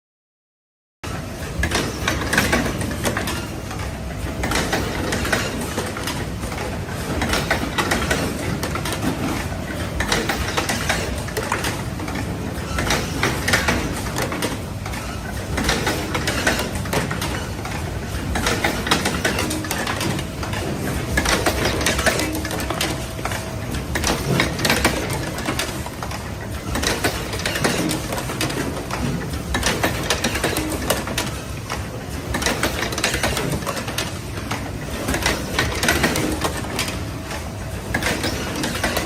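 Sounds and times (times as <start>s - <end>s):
machine clicking and clattering: 1.1s - 39.0s.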